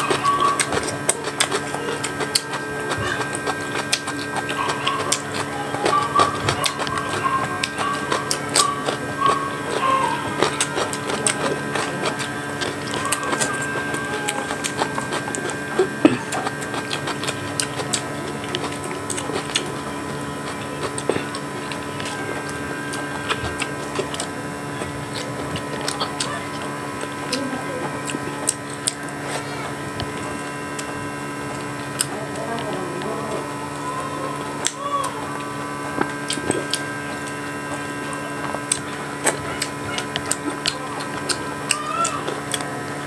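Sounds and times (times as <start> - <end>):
man chewing food: 0.0 - 43.0
steady background hum: 0.0 - 43.0.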